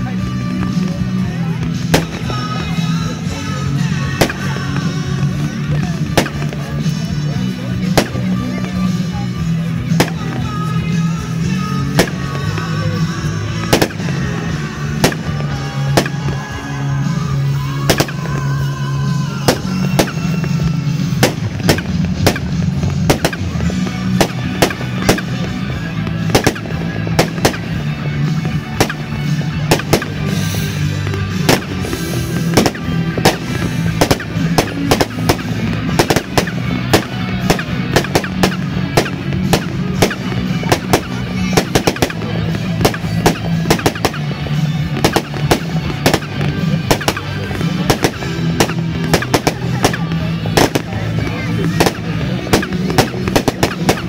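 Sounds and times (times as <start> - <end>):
fireworks exploding in sharp bangs: 0.0 - 54.0
steady low rumble: 0.0 - 54.0.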